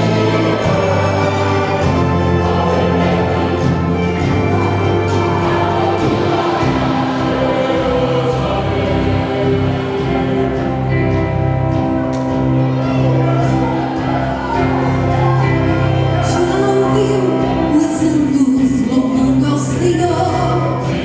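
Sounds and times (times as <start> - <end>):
choir singing a hymn: 0.0 - 21.0
orchestral chords: 0.0 - 21.0
steady bass: 0.0 - 21.0.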